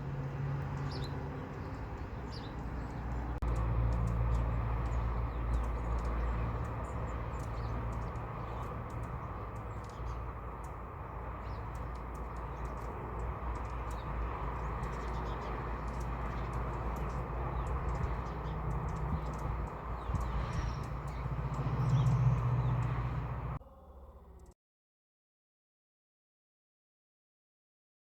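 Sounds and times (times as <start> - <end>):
small birds chirping: 0.0 - 24.5.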